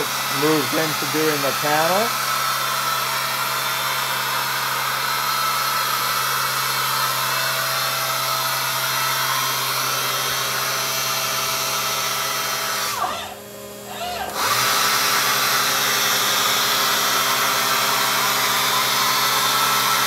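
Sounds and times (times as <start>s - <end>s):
sanding machine whirring hiss: 0.0s - 13.0s, 14.3s - 20.0s.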